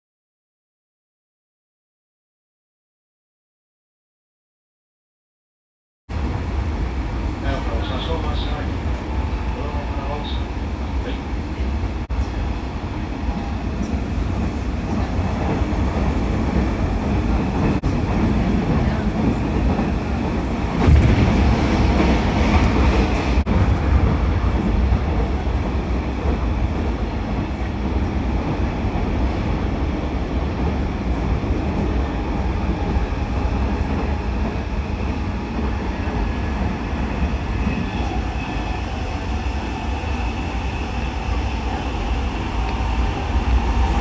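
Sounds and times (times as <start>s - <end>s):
train wheels rumbling on track: 6.1s - 44.0s.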